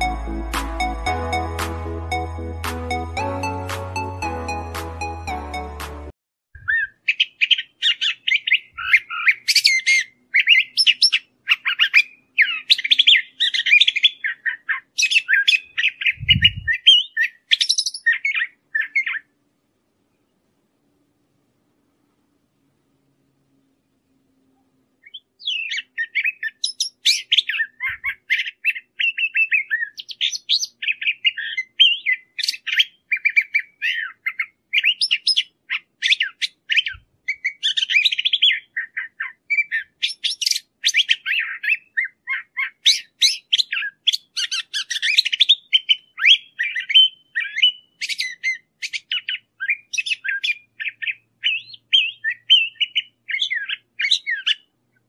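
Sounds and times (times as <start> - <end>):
bird singing varied notes: 0.0 - 5.6, 6.6 - 19.4, 25.0 - 54.8.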